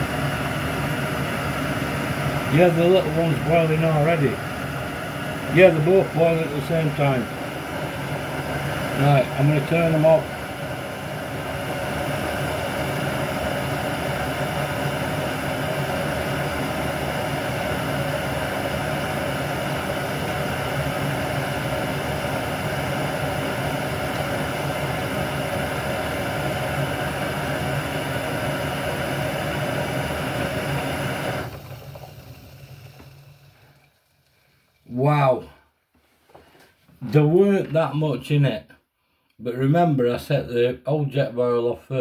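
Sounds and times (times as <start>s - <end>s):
gas stoves hissing: 0.0s - 35.3s
water boiling in pots: 0.0s - 35.3s.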